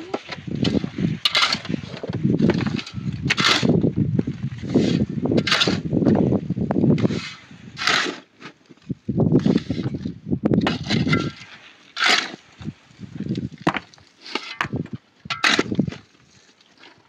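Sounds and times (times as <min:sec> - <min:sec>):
shovel digging stony soil: 0:00.0 - 0:06.2, 0:06.9 - 0:08.6, 0:09.3 - 0:13.5, 0:14.2 - 0:16.1.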